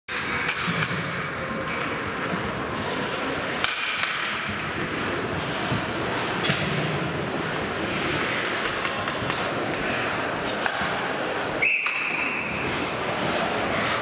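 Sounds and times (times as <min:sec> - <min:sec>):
ice rink hall noise: 0:00.1 - 0:14.0.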